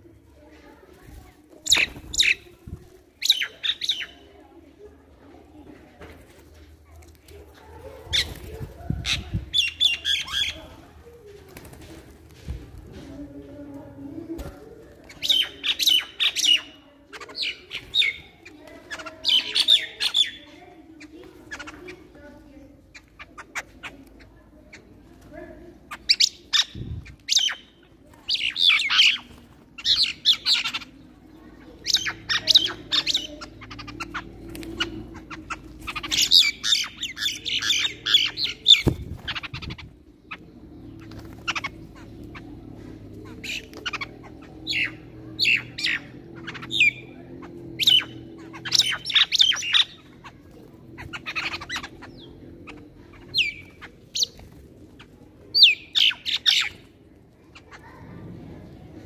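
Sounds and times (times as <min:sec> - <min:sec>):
birds squawking and chattering: 0:00.0 - 0:59.0.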